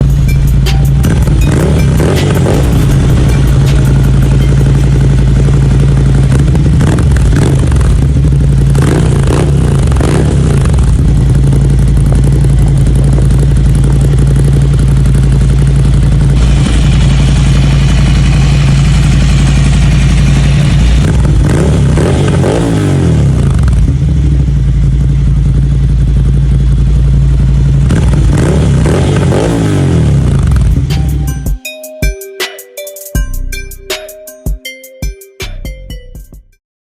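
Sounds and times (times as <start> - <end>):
motorcycle engine idling and revving: 0.0 - 31.6.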